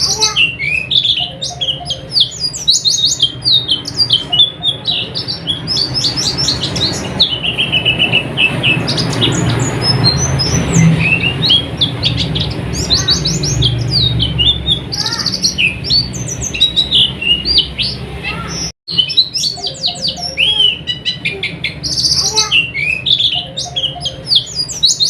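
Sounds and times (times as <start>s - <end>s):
bird twittering: 0.0s - 25.0s.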